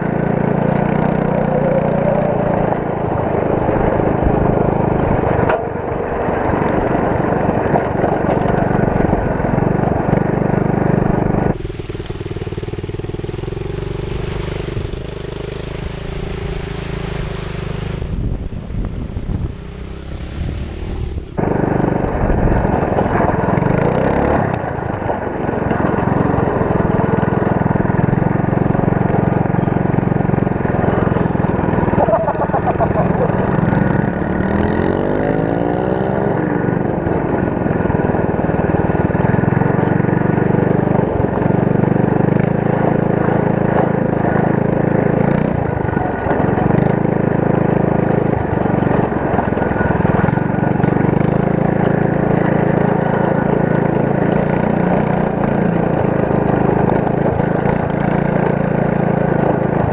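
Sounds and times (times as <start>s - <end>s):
go-kart engine running: 0.0s - 59.9s
riding through standing water: 0.0s - 59.9s.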